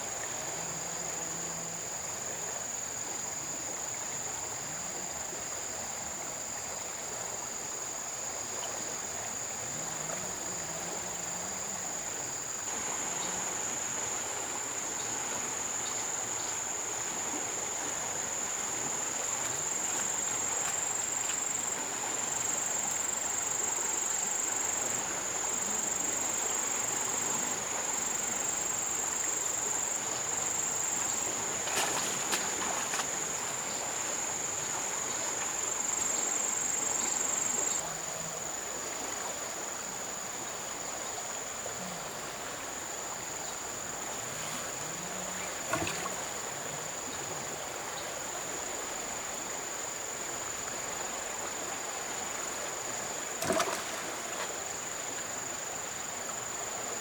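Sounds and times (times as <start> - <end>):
insects droning: 0.0 - 57.0
river water rushing: 8.1 - 57.0.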